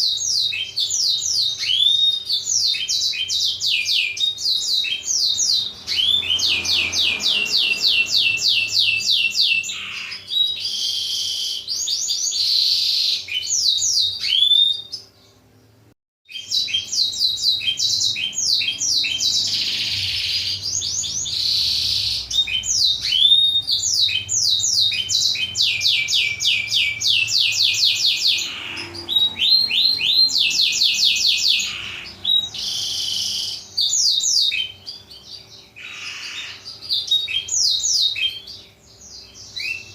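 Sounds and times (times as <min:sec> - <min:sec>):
canary song with fast trills: 0:00.0 - 0:39.9.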